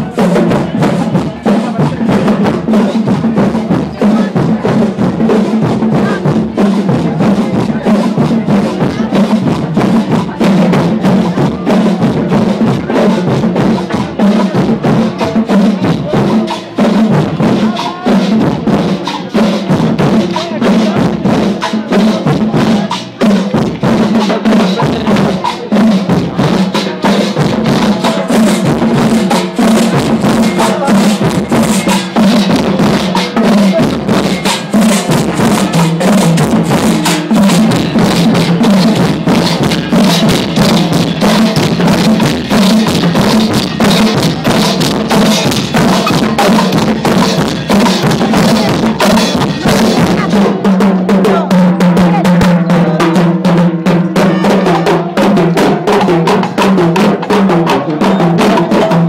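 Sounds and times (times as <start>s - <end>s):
snare drums and cymbals: 0.0s - 59.0s.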